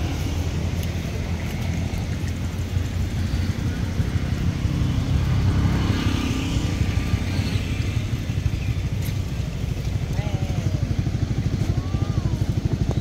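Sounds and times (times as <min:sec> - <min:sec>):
engine throbbing: 0:00.0 - 0:13.0.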